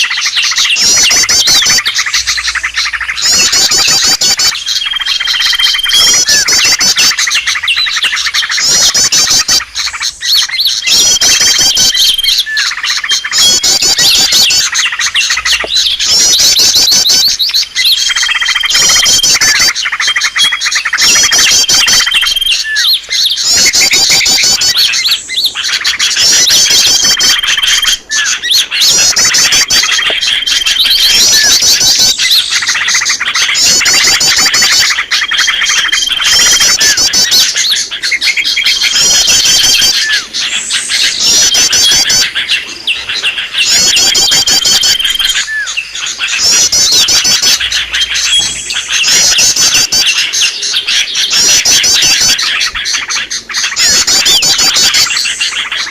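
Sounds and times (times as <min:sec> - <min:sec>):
birds twittering and trilling: 0:00.0 - 0:55.9.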